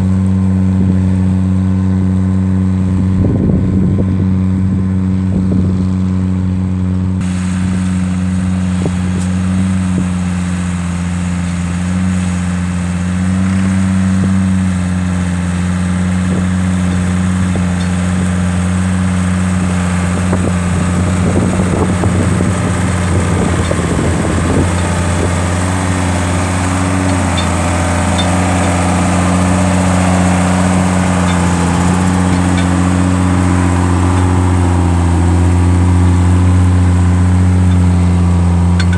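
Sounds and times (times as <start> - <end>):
engine rattling: 0.0 - 38.9
engine running steadily: 0.0 - 38.9.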